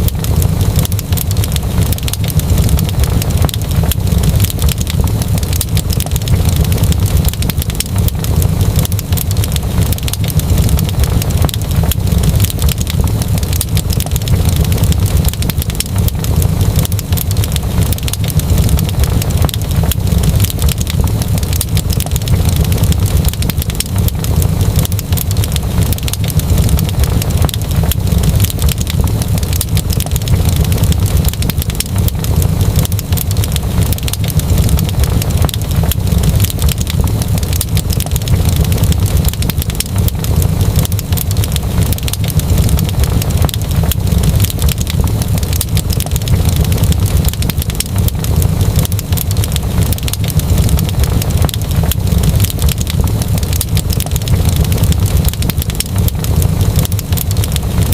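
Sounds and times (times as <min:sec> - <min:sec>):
steady low rumble: 0:00.0 - 0:57.9
wood fire crackling: 0:00.0 - 0:57.9.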